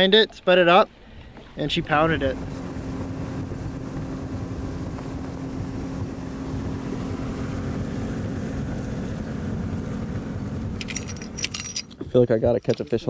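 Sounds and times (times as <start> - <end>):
water and wind rushing: 0.0 - 13.0
outboard engine drone: 0.8 - 12.2.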